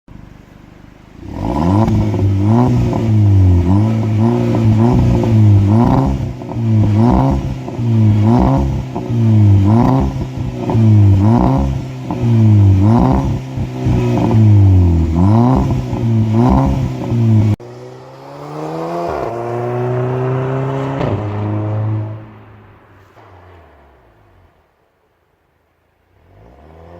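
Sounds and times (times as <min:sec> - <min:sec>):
car engine revving: 0:00.3 - 0:24.7.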